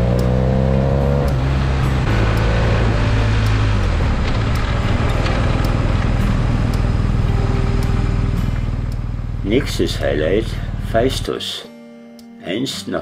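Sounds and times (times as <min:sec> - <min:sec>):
wind and road noise: 0:00.0 - 0:11.1
motorcycle engine running: 0:00.0 - 0:11.3.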